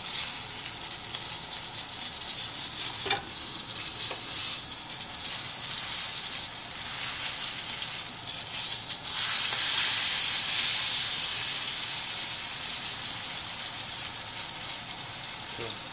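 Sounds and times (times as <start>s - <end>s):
steak sizzling in a pan: 0.0s - 15.9s.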